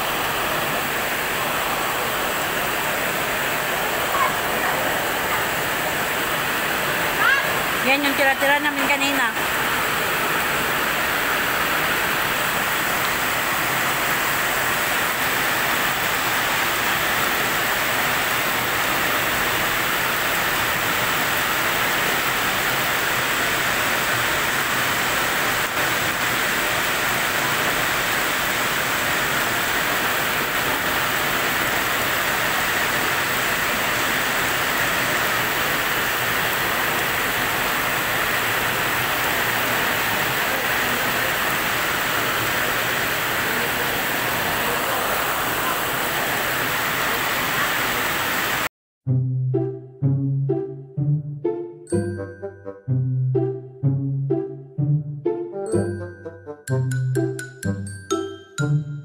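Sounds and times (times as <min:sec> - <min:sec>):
heavy rain on pool and concrete: 0:00.0 - 0:48.7.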